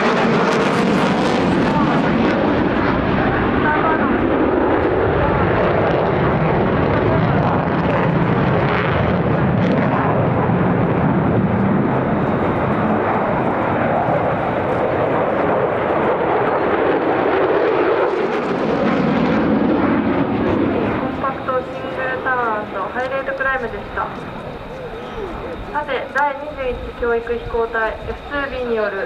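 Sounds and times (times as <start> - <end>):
jet engine roaring: 0.0 - 29.0.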